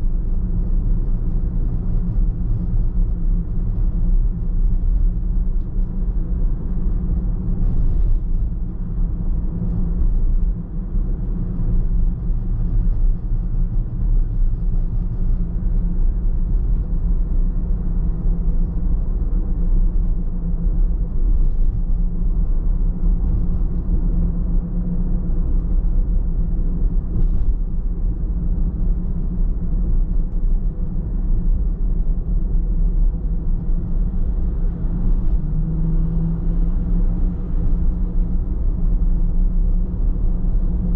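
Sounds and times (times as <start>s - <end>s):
car driving on road: 0.0s - 40.9s.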